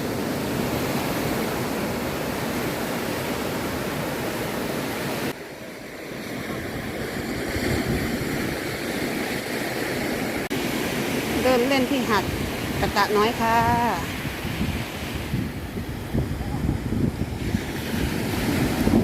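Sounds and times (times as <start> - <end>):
sea surf washing onto beach: 0.0 - 19.0.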